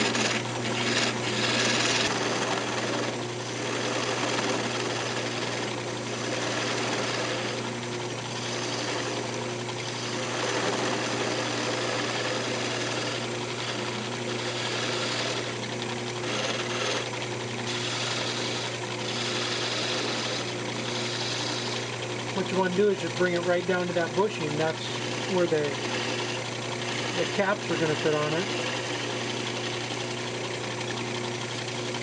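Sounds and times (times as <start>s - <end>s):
turning tool scraping wood: 0.0s - 32.0s
wood lathe motor hum: 0.0s - 32.0s.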